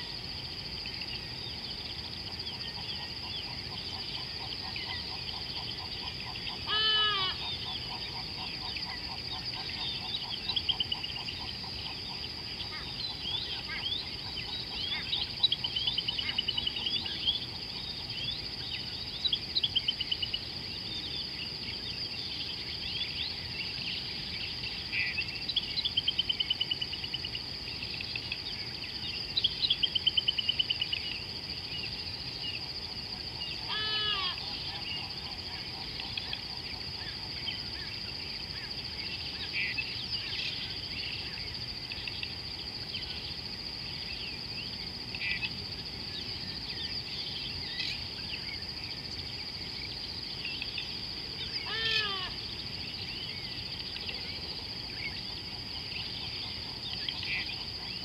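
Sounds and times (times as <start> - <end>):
high-pitched insect drone: 0.0 - 58.0
wild birds calling: 0.9 - 42.3, 46.6 - 58.0.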